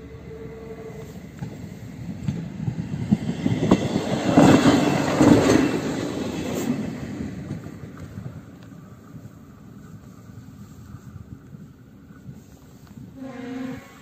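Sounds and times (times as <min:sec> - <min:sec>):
diesel train engine: 0:00.0 - 0:14.0.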